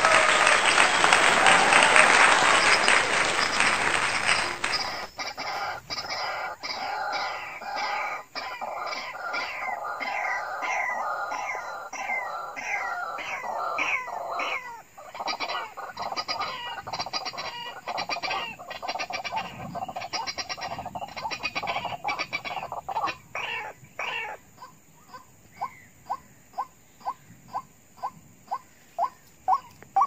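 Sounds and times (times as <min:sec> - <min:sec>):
bird harsh repeated calls: 0:00.0 - 0:30.0.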